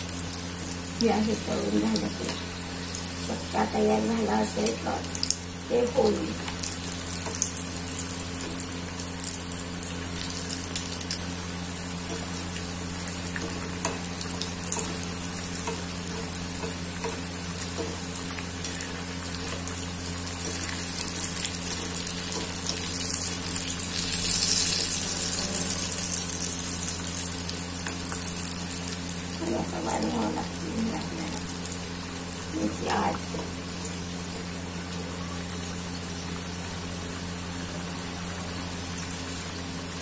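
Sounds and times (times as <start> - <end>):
deep-frying in hot oil: 0.0 - 40.0.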